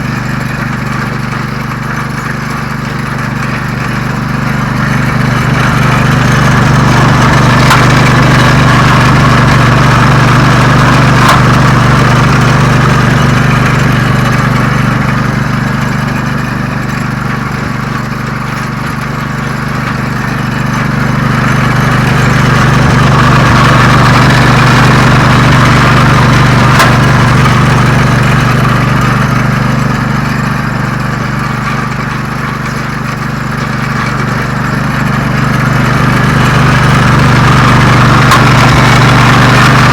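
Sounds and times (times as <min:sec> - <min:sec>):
saw disc cutting wood: 0:00.0 - 0:39.9
sawmill engine running: 0:00.0 - 0:39.9.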